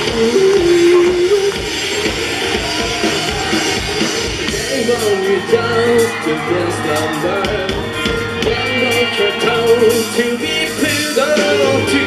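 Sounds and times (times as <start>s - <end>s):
melodic guitar or synth line: 0.0s - 3.0s, 4.3s - 12.0s
bass: 0.0s - 12.0s
drum kit: 0.0s - 12.0s.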